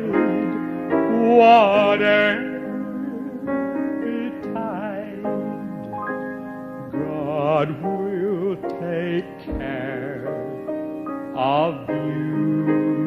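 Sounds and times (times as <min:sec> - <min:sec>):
man singing gospel song: 0:00.0 - 0:05.9, 0:06.9 - 0:13.0
instrumental accompaniment: 0:00.0 - 0:13.0.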